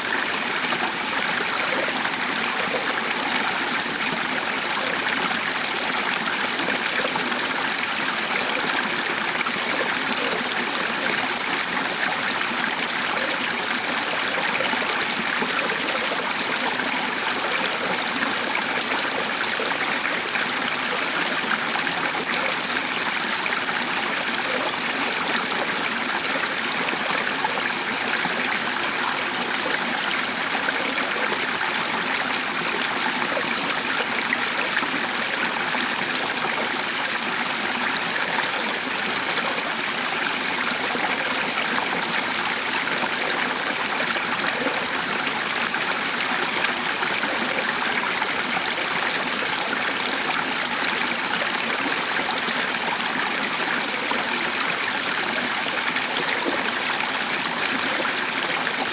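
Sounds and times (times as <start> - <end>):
stream of water trickling: 0.0 - 58.9.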